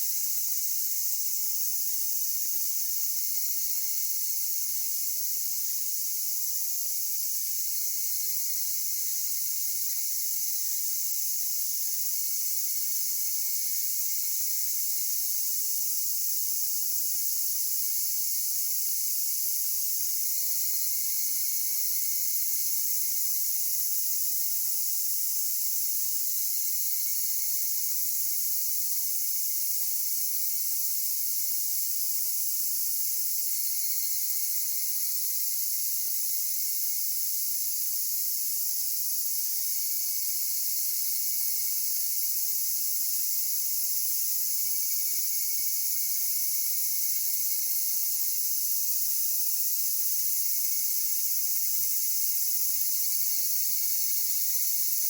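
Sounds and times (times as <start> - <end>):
cicadas and insects singing: 0.0 - 55.0.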